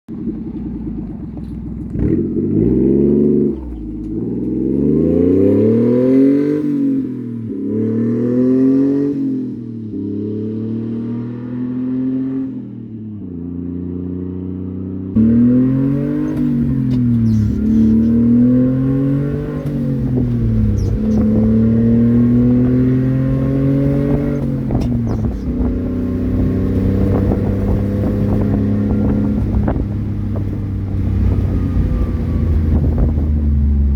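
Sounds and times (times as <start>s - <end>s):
truck engine pulling through gears: 0.1s - 9.8s, 14.4s - 33.9s.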